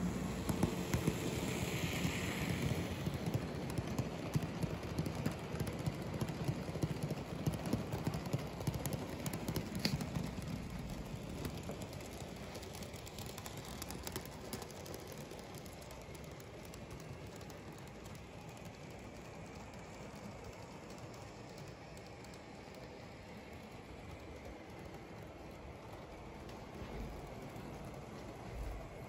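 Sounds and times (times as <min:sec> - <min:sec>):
model train wheels clicking on rails: 0:00.0 - 0:29.0.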